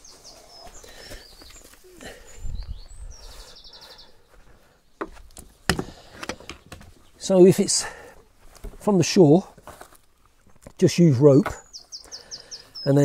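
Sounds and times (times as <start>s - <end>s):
small songbirds chirping: 0.0s - 9.5s, 10.1s - 13.0s.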